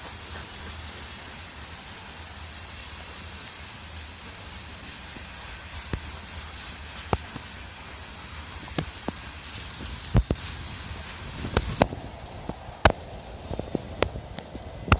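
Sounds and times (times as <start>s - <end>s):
pouring rain hissing: 0.0s - 14.9s
raindrops tapping near microphone: 0.0s - 14.9s.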